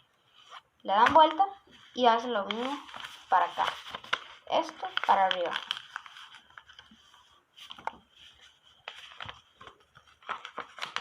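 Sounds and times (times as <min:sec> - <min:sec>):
paper rustling and crinkling: 0:00.2 - 0:11.0.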